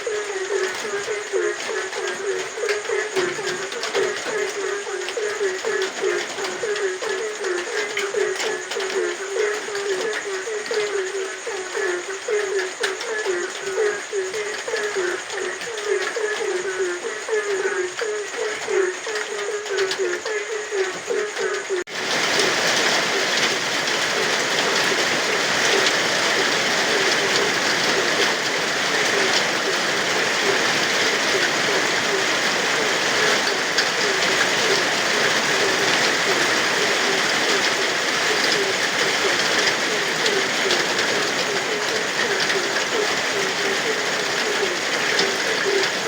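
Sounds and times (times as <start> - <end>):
frogs croaking: 0.0 - 46.0
heavy rain: 0.0 - 46.0.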